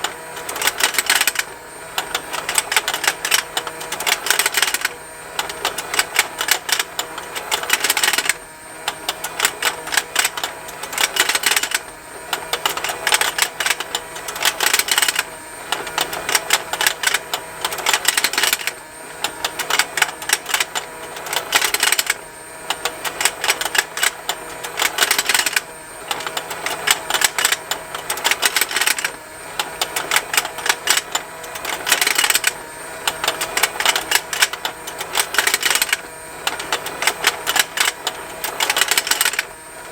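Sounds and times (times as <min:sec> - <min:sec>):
small toy motor humming: 0:00.0 - 0:39.9.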